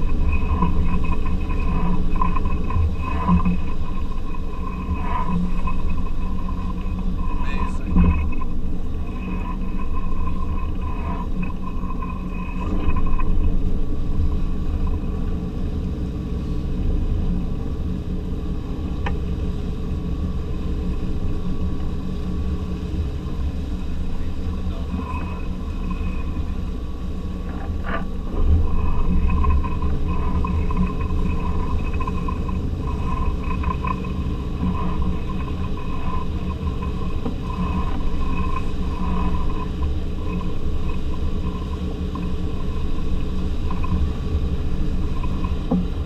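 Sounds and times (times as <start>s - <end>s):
boat engine droning: 0.0s - 46.0s
faint high whine: 0.0s - 46.0s.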